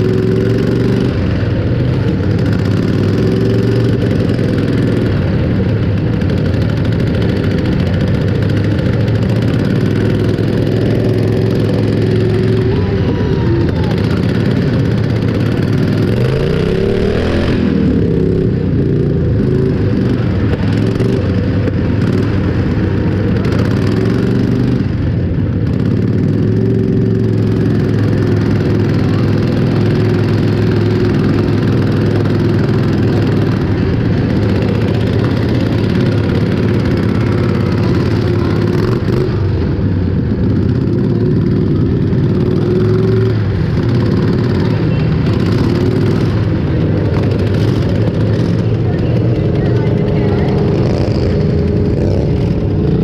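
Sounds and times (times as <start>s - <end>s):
engine revving: 0.0s - 53.0s
vehicle engines running: 0.0s - 53.0s.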